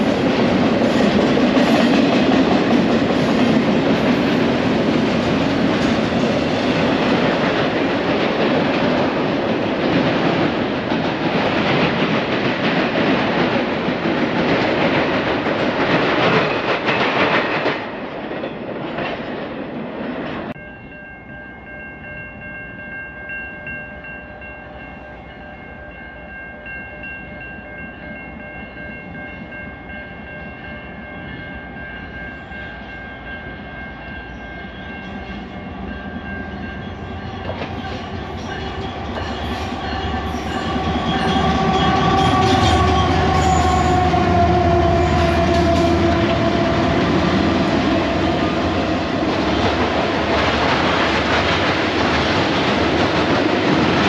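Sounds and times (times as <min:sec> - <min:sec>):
diesel locomotives approaching: 0:00.0 - 0:54.0
freight train rolling on rails: 0:00.0 - 0:54.0.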